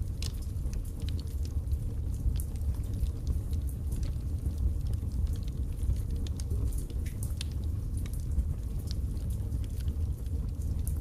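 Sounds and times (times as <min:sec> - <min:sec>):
fire crackling and popping: 0:00.0 - 0:11.0
low fire rumble: 0:00.0 - 0:11.0.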